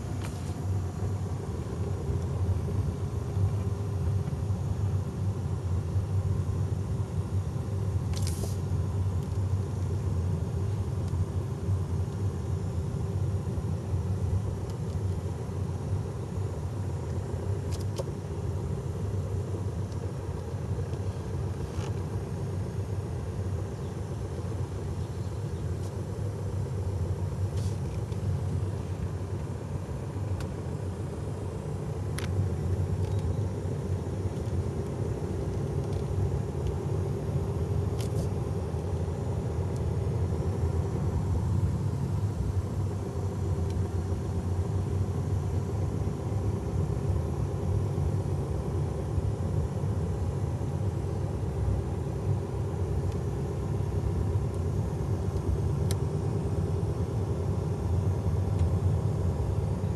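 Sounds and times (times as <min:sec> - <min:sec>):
car engine and tyre rumble: 0:00.0 - 0:59.9
faint hum: 0:00.0 - 0:59.9.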